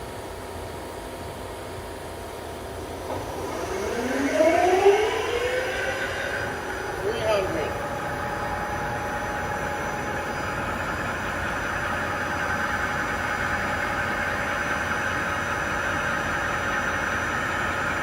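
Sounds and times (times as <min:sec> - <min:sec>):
lathe humming and whining: 0:00.0 - 0:18.0.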